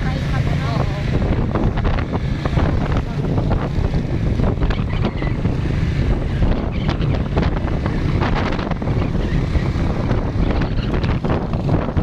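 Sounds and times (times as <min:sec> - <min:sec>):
motorcycle noise: 0:00.0 - 0:12.0
wind buffeting microphone: 0:00.0 - 0:12.0.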